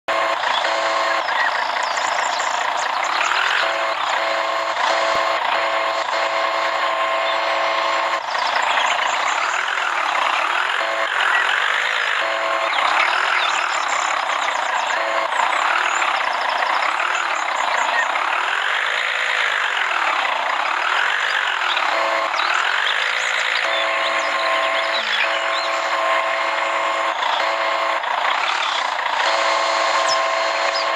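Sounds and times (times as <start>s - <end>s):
siren wailing: 0.1s - 30.9s
steady beeping tone: 0.1s - 30.9s.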